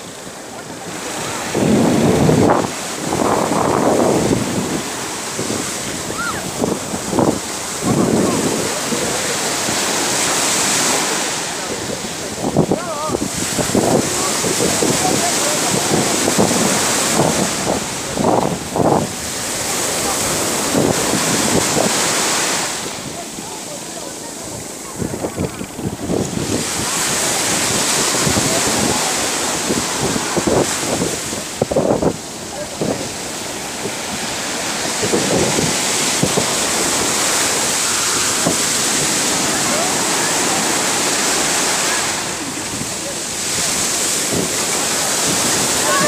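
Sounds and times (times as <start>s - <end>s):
sea surf washing up beach: 0.0s - 46.0s
wind buffeting microphone: 0.0s - 46.0s.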